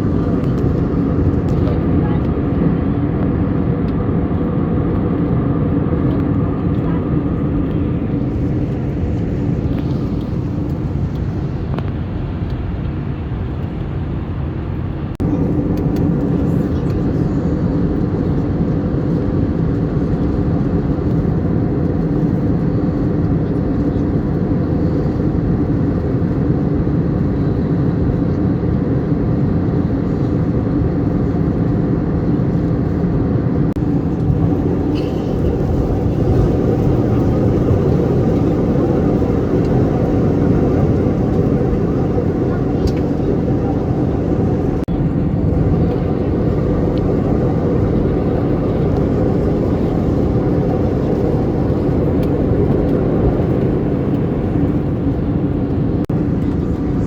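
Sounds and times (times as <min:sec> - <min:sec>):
airliner engine roar in cabin: 0:00.0 - 0:57.0
steady low hum: 0:00.0 - 0:57.0.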